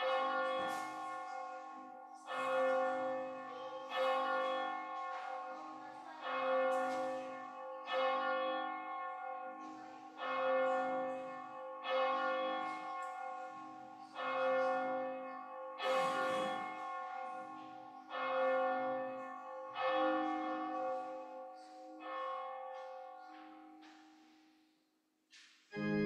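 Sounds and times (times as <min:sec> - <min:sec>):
church bell tolling: 0:00.0 - 0:24.6.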